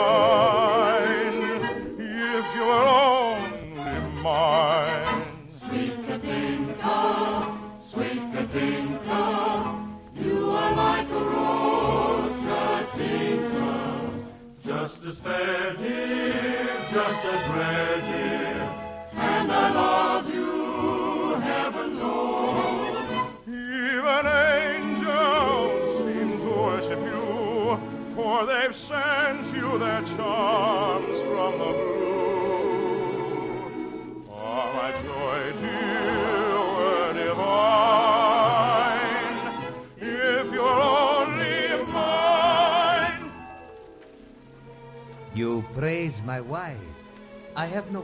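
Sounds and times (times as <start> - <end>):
choir singing with vibrato: 0.0 - 43.4
orchestral accompaniment: 0.0 - 48.0.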